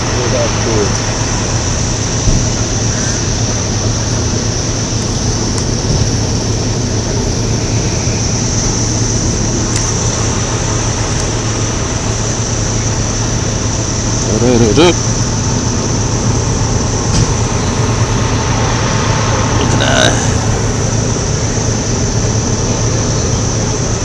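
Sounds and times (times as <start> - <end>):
fire truck engines droning: 0.0 - 24.0.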